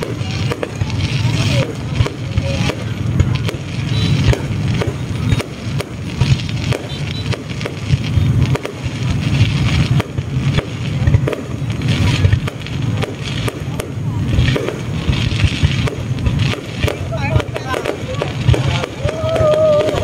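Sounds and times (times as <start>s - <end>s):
firework bursts and bangs: 0.0s - 20.0s
steady low rumble: 0.0s - 20.0s.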